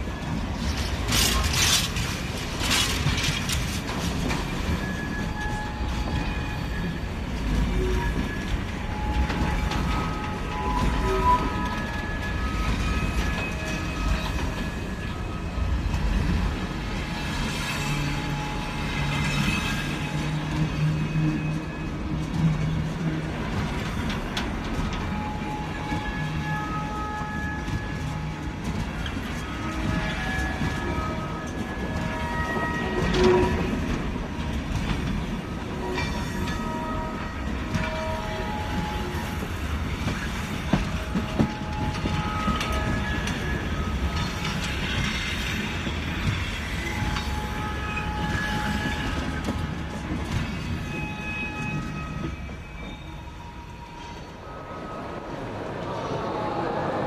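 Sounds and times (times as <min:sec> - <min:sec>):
train cars rumbling and rattling: 0:00.0 - 0:57.0.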